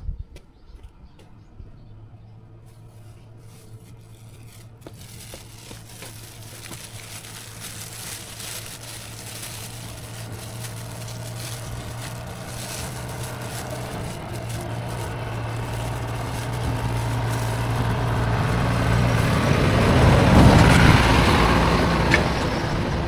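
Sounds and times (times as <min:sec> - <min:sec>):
engine humming with hiss: 0:01.3 - 0:23.0.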